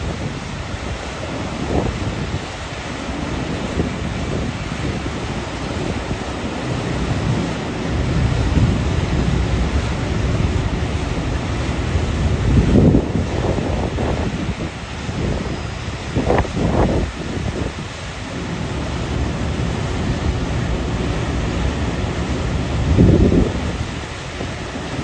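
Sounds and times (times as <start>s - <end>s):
waterfall rushing: 0.0s - 25.0s
wind buffeting microphone: 0.0s - 25.0s.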